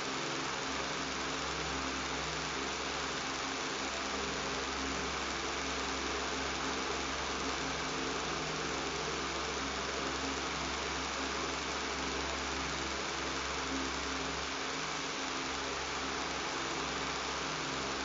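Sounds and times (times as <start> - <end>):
fan motor hum: 0.0 - 18.0.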